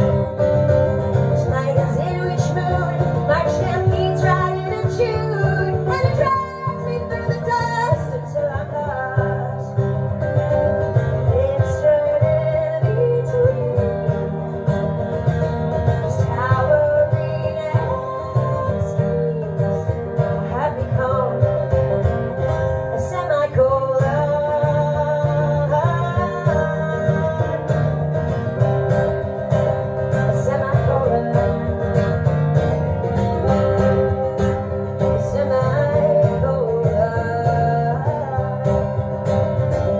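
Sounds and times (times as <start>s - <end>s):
acoustic guitar: 0.0s - 39.9s
woman singing into microphone: 0.0s - 39.9s.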